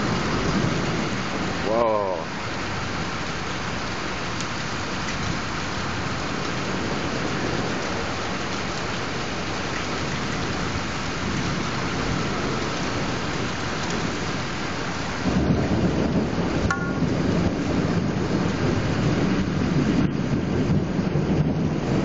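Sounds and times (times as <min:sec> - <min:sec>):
steady rain falling: 0:00.0 - 0:22.0
wind buffeting microphone: 0:00.0 - 0:22.0.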